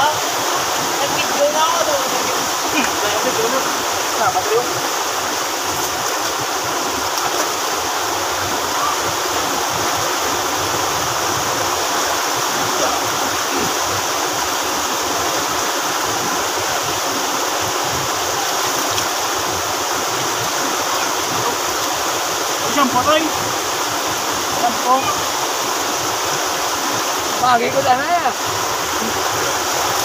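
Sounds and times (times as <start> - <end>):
stream rushing over boulders: 0.0 - 30.0.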